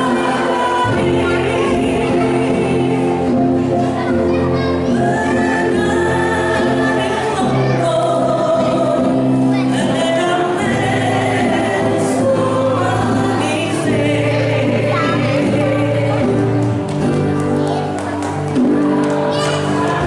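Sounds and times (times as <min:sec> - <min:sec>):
group singing together: 0:00.0 - 0:17.2, 0:18.3 - 0:20.0
backing music: 0:00.0 - 0:20.0.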